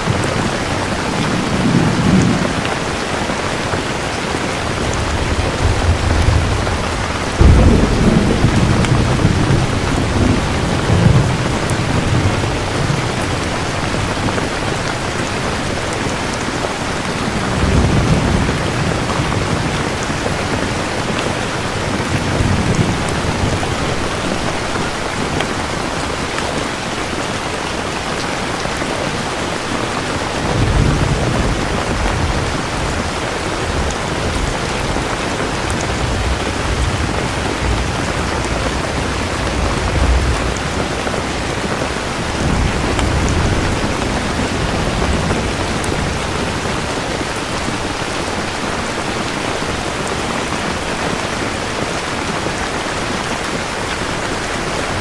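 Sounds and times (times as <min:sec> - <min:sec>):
thunder rumbling: 0:00.0 - 0:26.9, 0:28.7 - 0:55.0
heavy rain: 0:00.0 - 0:55.0.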